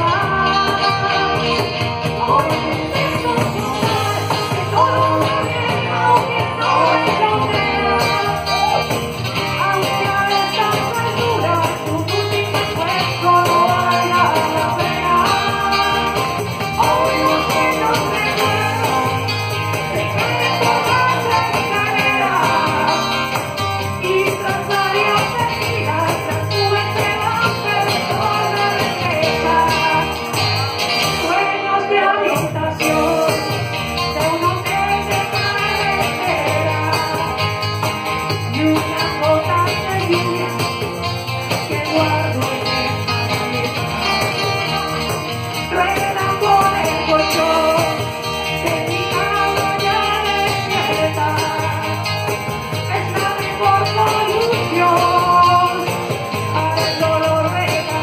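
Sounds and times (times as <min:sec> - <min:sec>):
cajon drumming: 0:00.0 - 0:31.4, 0:32.3 - 0:58.0
jingling hand percussion: 0:00.0 - 0:58.0
strummed acoustic guitar: 0:00.0 - 0:58.0
woman singing into microphone: 0:00.0 - 0:58.0.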